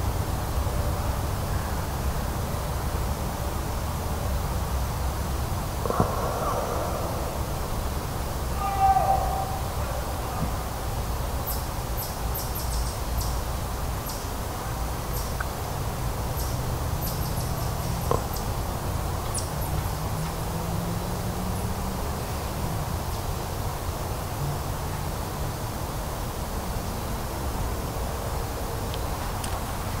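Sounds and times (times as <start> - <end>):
distant traffic rumble: 0.0 - 30.0.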